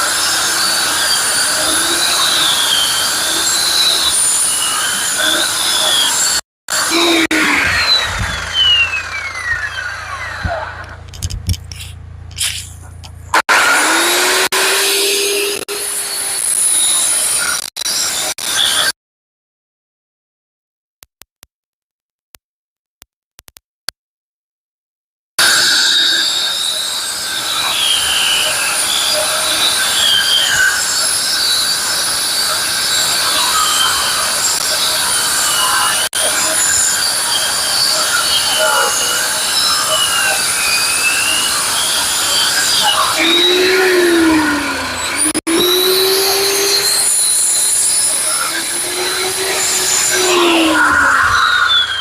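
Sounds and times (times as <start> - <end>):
concrete floor saw whining: 0.0 - 18.9, 25.4 - 52.0.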